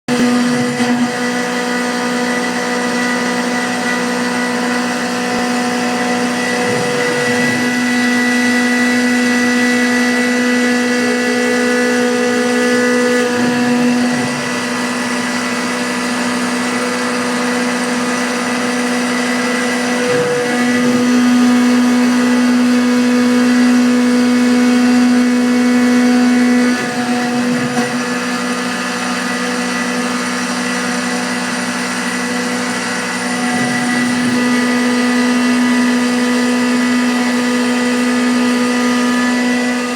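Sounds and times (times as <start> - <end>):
milling machine cutting metal: 0.1 - 39.9.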